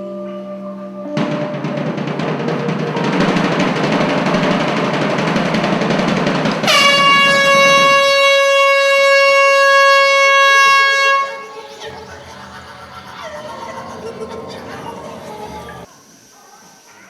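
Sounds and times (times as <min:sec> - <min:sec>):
loud blown horn note: 0:00.0 - 0:15.8
drum roll: 0:01.1 - 0:15.9.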